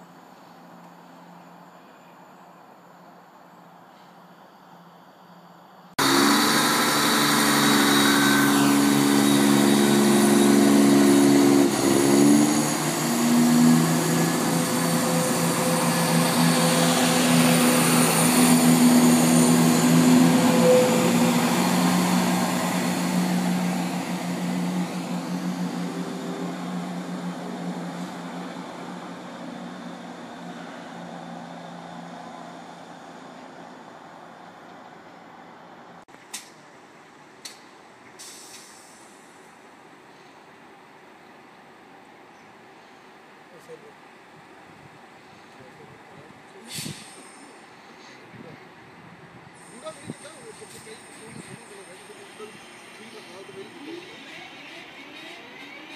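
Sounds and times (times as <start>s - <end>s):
train running through station: 0.0s - 36.0s, 36.6s - 55.9s.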